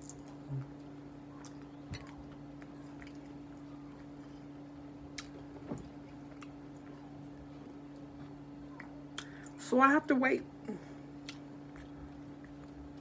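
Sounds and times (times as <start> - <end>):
person chewing food: 0.0 - 9.6, 11.1 - 13.0
steady low hum: 0.0 - 13.0.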